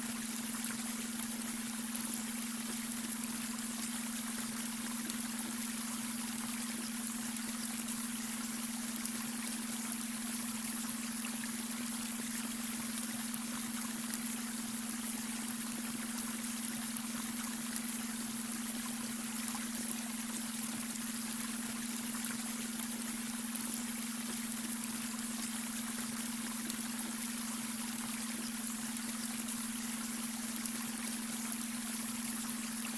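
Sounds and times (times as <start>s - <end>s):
brook water running over stones: 0.0s - 32.9s
steady low hum tone: 0.0s - 32.9s.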